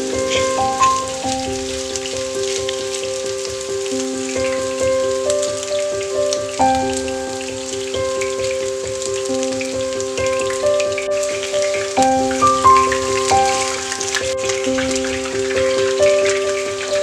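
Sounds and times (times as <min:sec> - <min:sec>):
patties sizzling in hot oil: 0:00.0 - 0:17.0
slow music of held chords: 0:00.0 - 0:17.0.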